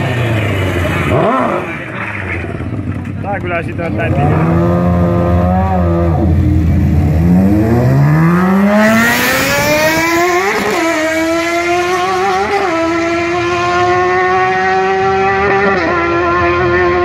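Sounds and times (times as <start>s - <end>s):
go-kart engine at full throttle: 0.0s - 17.0s.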